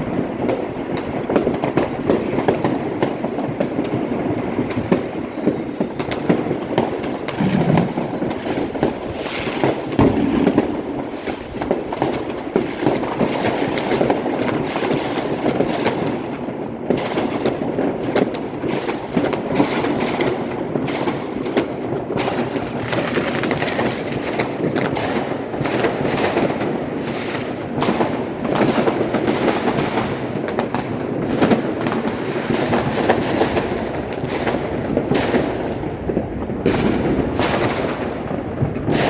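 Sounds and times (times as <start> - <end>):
firecrackers crackling: 0.0 - 39.0.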